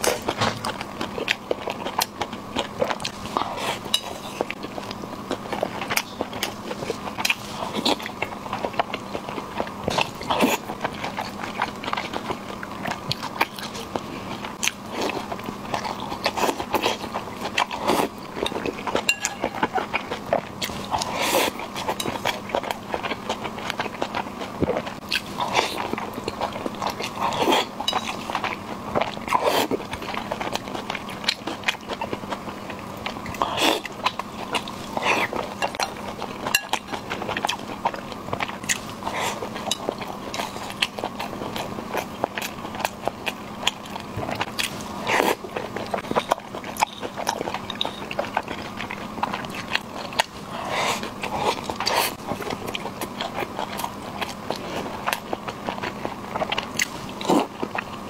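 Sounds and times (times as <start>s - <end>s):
faint steady hum: 0.0s - 58.0s
person chewing: 0.0s - 58.0s.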